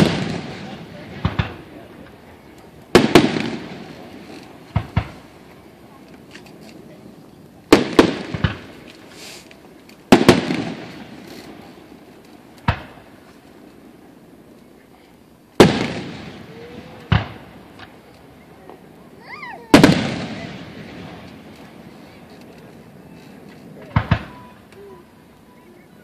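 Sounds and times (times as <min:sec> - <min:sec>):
firework shells booming: 0:00.0 - 0:06.3, 0:07.7 - 0:14.5, 0:15.6 - 0:25.4.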